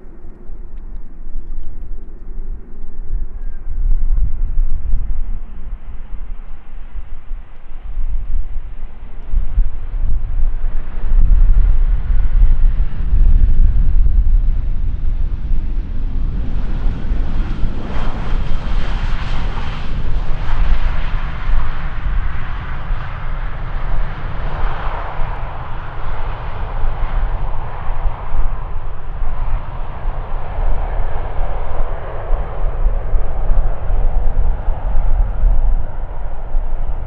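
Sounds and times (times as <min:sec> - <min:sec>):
jet airliner flying past: 0:00.0 - 0:37.0.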